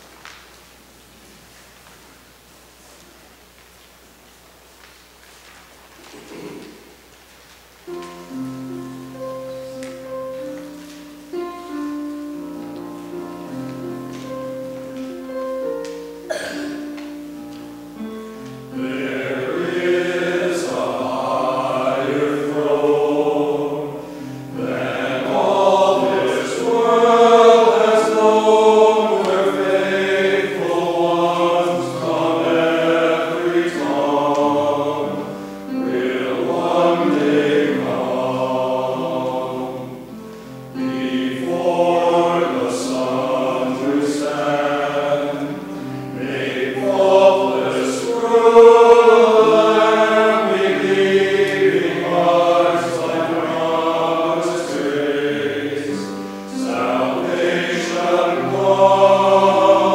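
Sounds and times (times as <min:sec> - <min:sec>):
piano chords and melody: 0:07.8 - 0:59.9
men's choir singing a hymn: 0:07.9 - 0:59.9.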